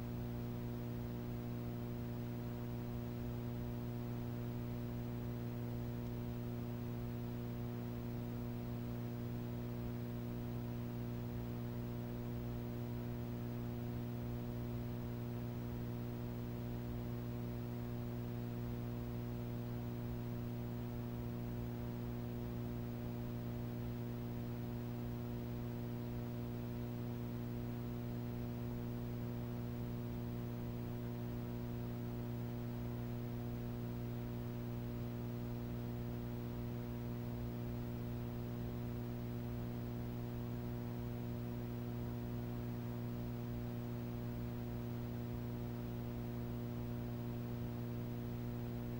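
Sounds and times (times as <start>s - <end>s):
steady electrical hum: 0.0s - 48.9s.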